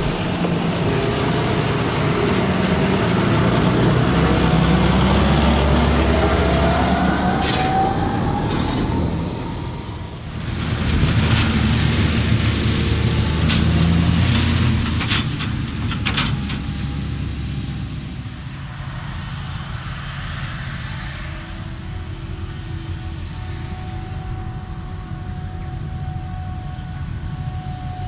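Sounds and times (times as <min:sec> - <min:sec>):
tractor diesel engines passing: 0:00.0 - 0:28.0.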